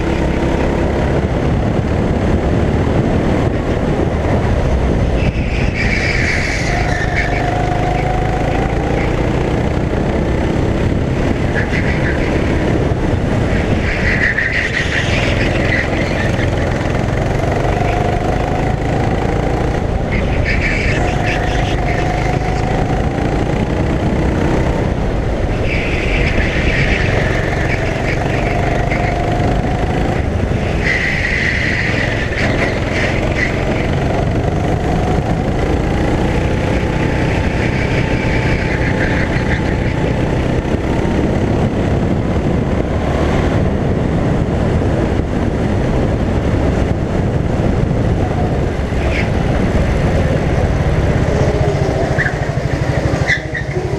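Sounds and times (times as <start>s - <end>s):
go-kart engine running hard: 0.0s - 53.9s.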